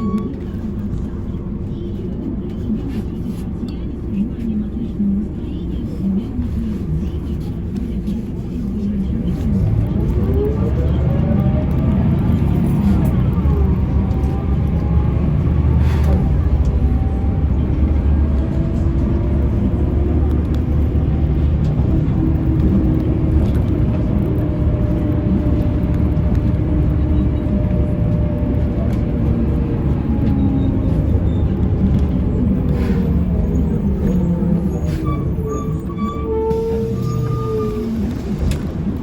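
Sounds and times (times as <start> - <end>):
bus engine and road rumble: 0.0 - 39.0
bus whine: 0.0 - 39.0.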